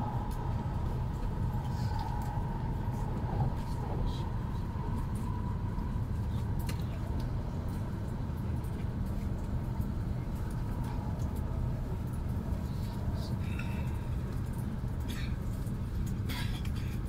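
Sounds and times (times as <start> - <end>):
low rumble inside train car: 0.0 - 17.0.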